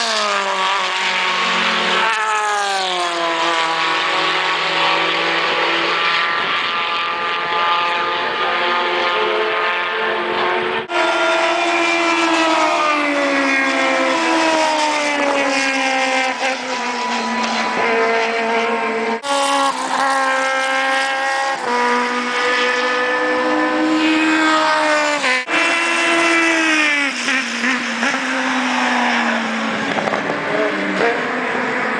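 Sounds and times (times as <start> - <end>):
racing car engines: 0.0 - 31.9.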